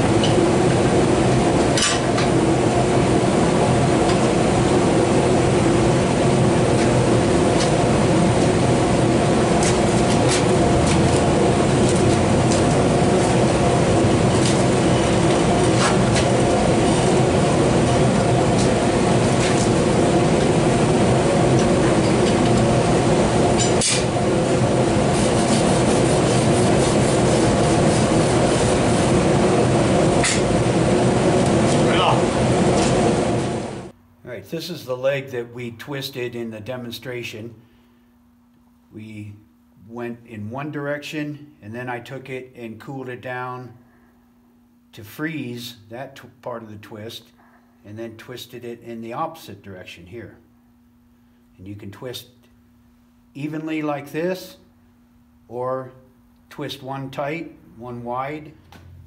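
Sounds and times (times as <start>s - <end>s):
shop machinery droning: 0.0s - 59.0s.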